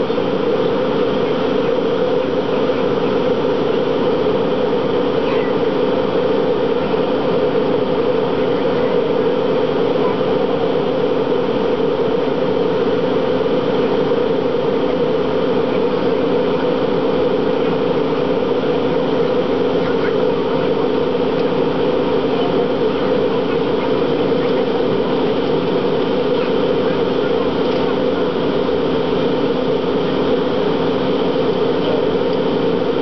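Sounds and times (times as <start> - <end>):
jet cabin engine drone: 0.0 - 33.0.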